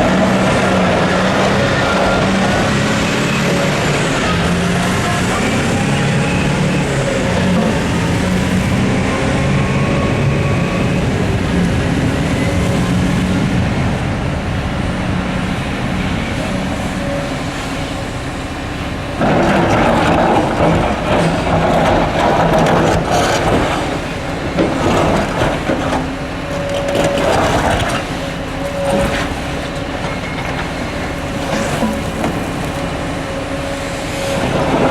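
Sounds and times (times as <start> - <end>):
diesel machinery running: 0.0 - 34.9
hydraulic hum: 0.0 - 34.9.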